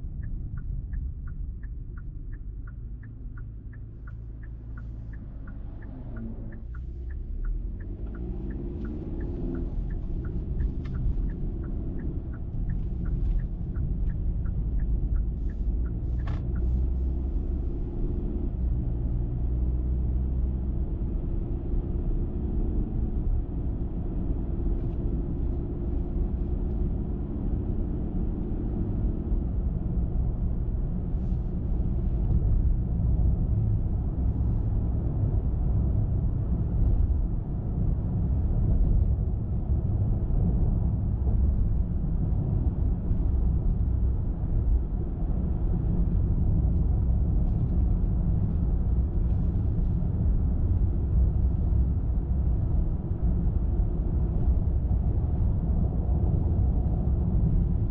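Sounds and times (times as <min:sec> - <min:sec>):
turn signal ticking: 0:00.0 - 0:54.9
car engine and tyre rumble: 0:00.0 - 0:57.9.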